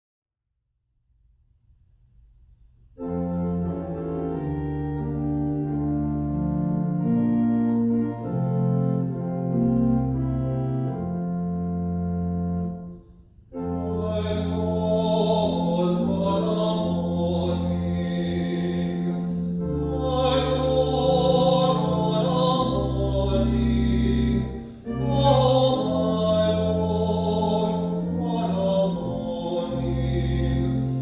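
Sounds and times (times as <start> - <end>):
organ chords: 2.9 - 31.0.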